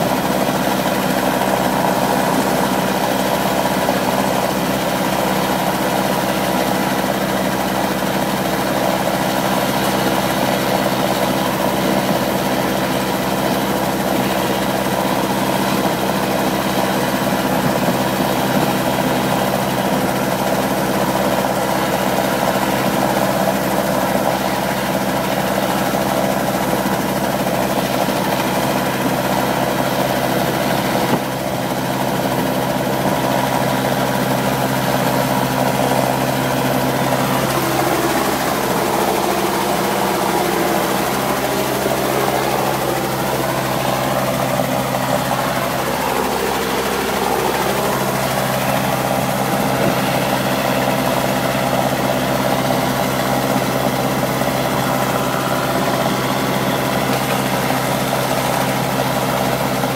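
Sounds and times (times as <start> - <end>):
helicopter engine and rotors running: 0.0 - 59.9.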